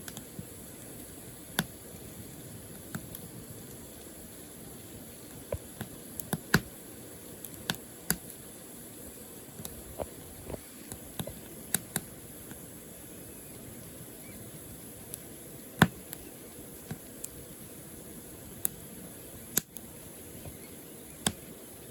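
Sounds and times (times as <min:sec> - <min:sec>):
firewood crackling: 0:00.0 - 0:21.9.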